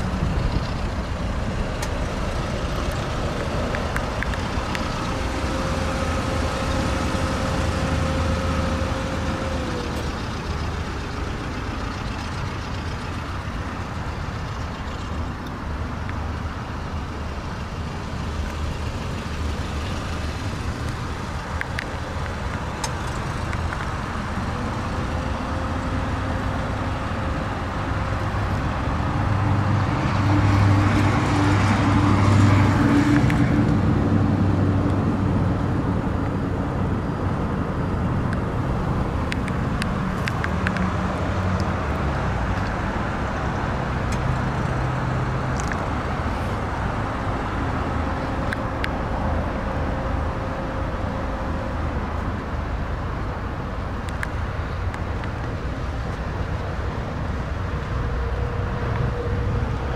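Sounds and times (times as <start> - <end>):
low hum of vehicle engines: 0.0 - 59.9.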